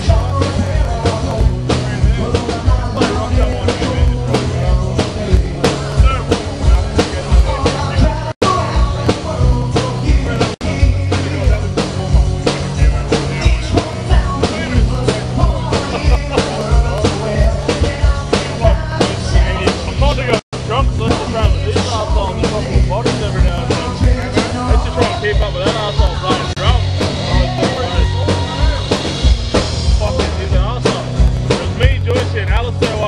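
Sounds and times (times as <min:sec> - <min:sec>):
drum kit beat: 0:00.0 - 0:33.0
live rock band playing: 0:00.0 - 0:33.0.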